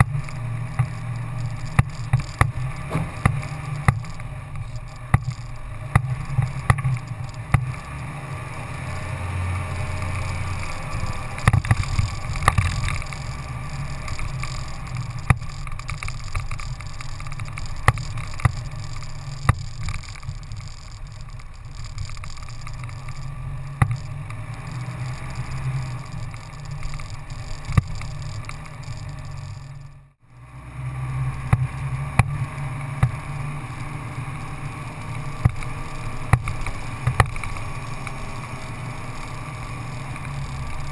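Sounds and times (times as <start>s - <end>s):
off-road vehicle engine droning: 0.0s - 40.9s.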